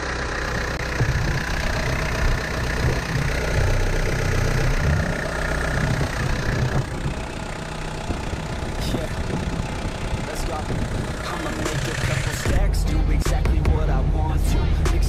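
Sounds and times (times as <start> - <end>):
steady compressor whine: 0.0 - 14.8
engine idling: 0.0 - 15.0.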